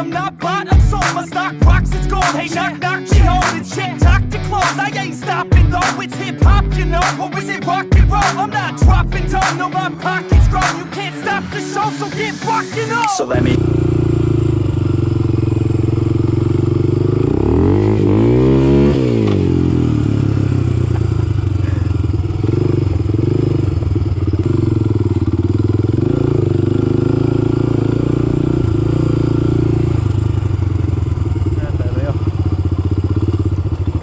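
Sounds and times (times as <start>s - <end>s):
quad engine revving: 0.0s - 34.0s.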